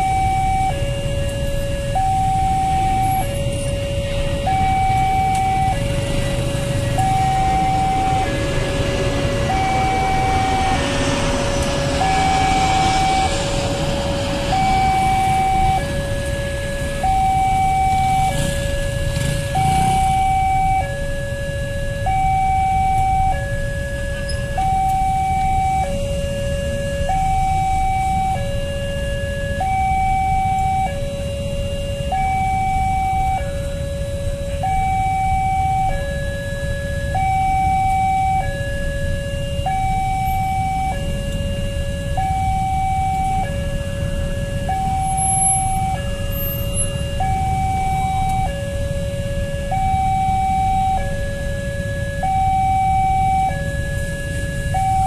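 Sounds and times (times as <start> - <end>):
idling vehicles rumbling: 0.0 - 55.0
two-tone crossing alarm: 0.0 - 55.0.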